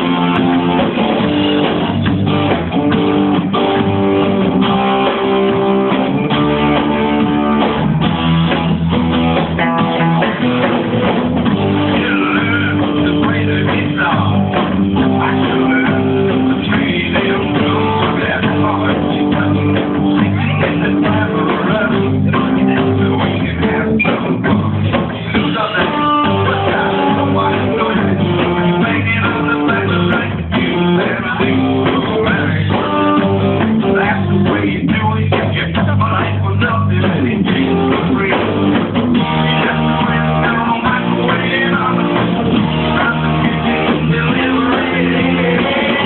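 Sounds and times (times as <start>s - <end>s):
rock band playing: 0.0s - 46.0s.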